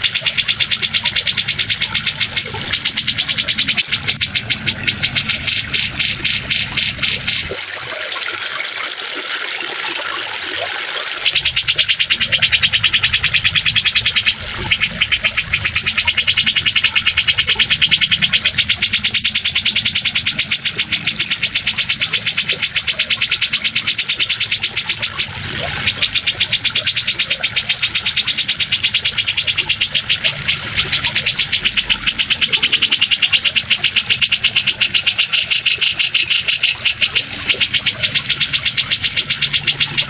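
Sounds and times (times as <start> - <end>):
bird chattering: 0.0 - 7.5, 11.2 - 40.0.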